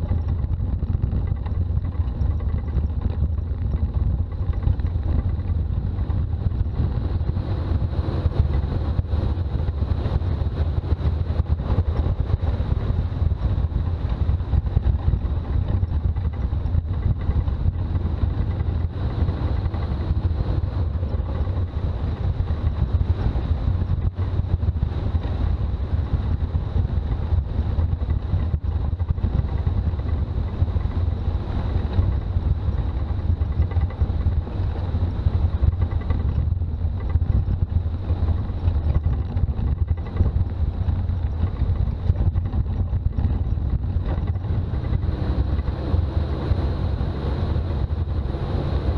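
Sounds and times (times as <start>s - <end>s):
diesel engine driving: 0.0s - 48.9s
road noise: 0.0s - 48.9s.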